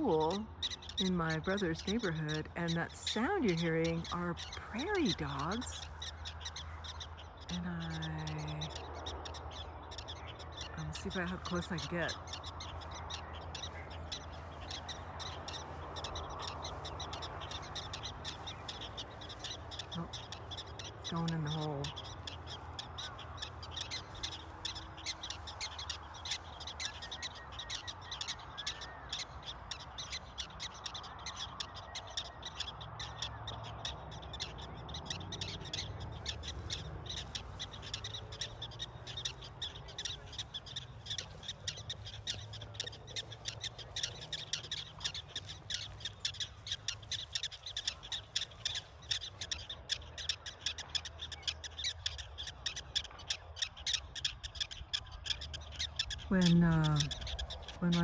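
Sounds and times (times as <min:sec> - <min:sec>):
prairie dogs chirping barks: 0:00.0 - 0:58.0.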